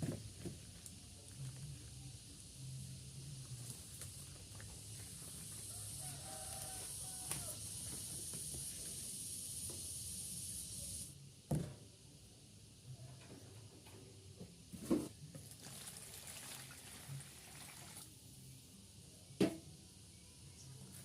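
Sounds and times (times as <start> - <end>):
steady high hiss: 0.0 - 15.3, 18.0 - 21.0.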